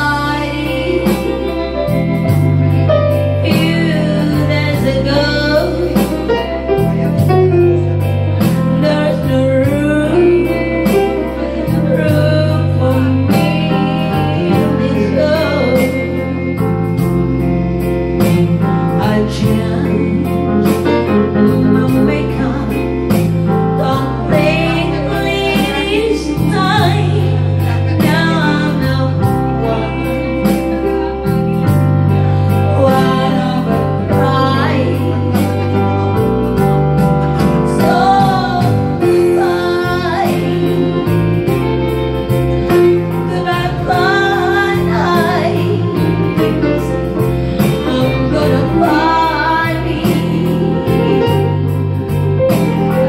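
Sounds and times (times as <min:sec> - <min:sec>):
instrumental accompaniment with bass: 0:00.0 - 0:53.0
woman singing into a microphone: 0:00.0 - 0:53.0.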